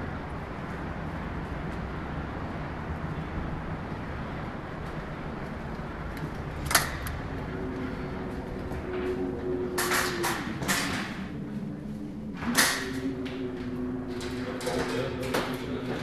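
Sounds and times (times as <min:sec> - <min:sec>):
faint steady hum: 0:00.0 - 0:16.0
low outdoor rumble: 0:00.0 - 0:16.0.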